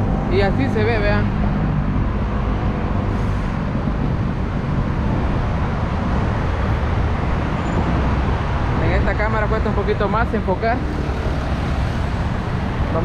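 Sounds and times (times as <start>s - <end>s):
heavy road traffic: 0.0s - 13.0s.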